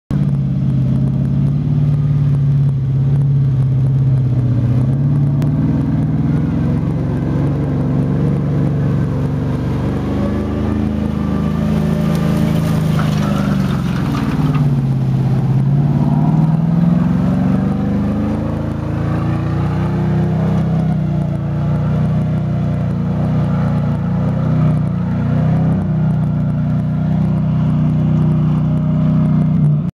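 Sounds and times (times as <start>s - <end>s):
truck engine running: 0.1s - 29.9s.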